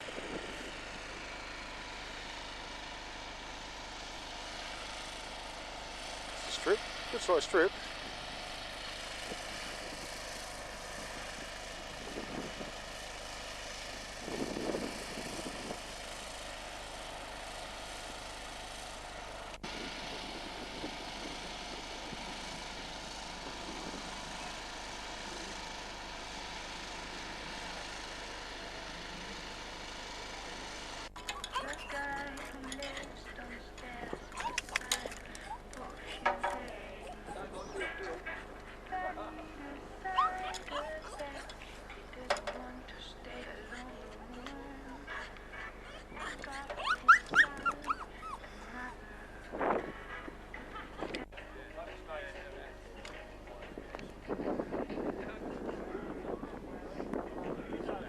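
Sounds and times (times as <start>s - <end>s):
engine drone with hiss: 0.0s - 58.0s.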